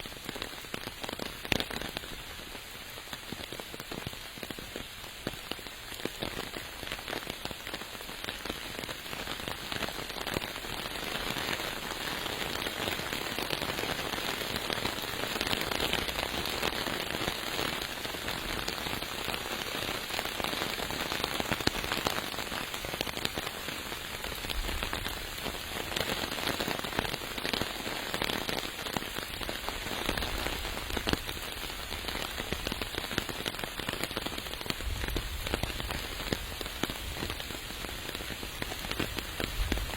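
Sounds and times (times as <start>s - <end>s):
raindrops hitting close: 0.0s - 39.9s
steady rain: 0.0s - 39.9s.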